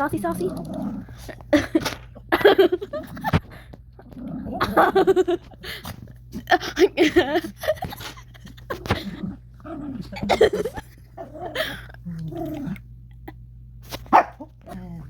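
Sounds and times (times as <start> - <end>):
dog play-growling: 0.0 - 6.8, 7.9 - 13.0, 14.0 - 15.0.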